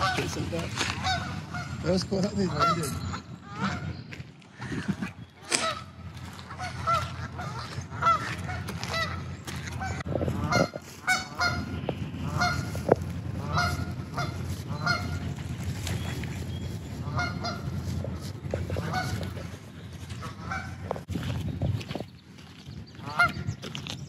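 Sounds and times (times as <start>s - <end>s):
waterfowl honking: 0.0s - 21.0s, 23.0s - 23.5s
steady low rumble: 0.0s - 24.0s.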